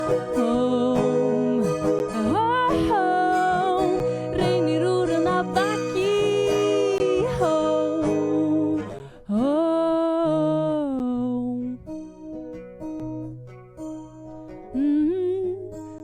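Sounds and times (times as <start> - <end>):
woman singing wordless notes: 0.0 - 12.0, 14.7 - 15.9
acoustic guitar strumming: 0.0 - 16.0.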